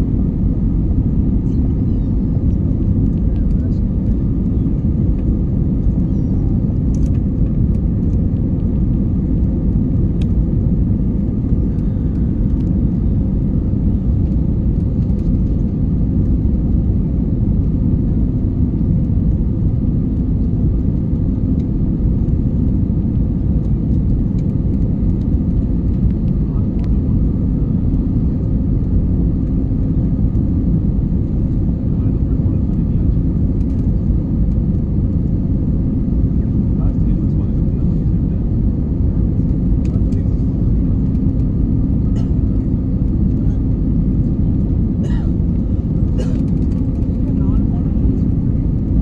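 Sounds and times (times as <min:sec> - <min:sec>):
jet engine cabin rumble: 0:00.0 - 0:49.0.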